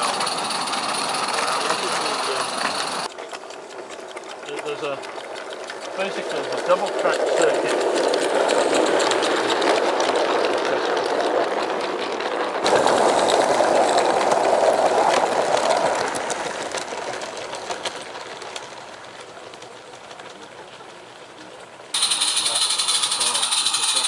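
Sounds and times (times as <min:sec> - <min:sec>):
model steam locomotive chuffing: 0:00.0 - 0:24.0.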